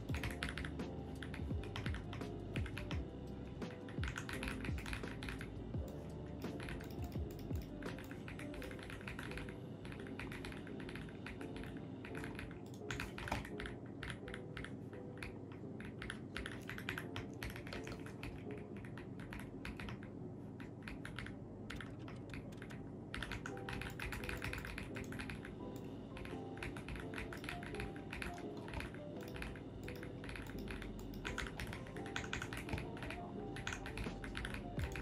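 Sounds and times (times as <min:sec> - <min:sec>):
mechanical keyboard typing: 0:00.0 - 0:35.0.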